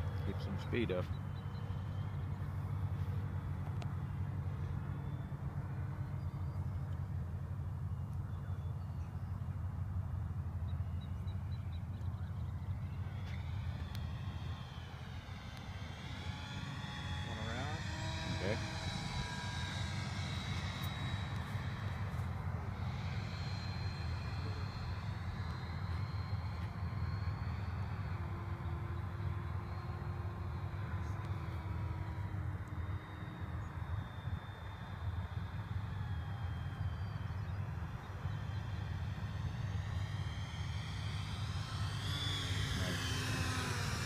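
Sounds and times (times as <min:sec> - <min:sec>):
distant model jet fan: 0:00.0 - 0:44.0.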